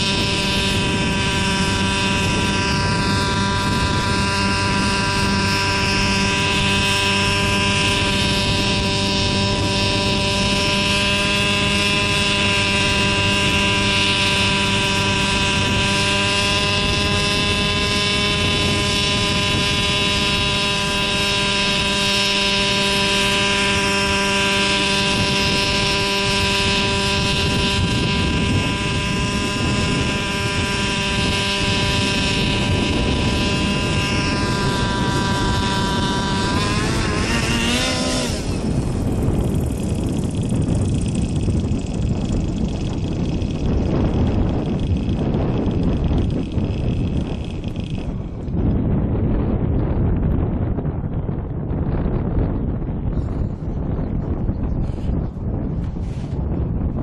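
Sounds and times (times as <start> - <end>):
model helicopter engine and rotor: 0.0 - 57.0.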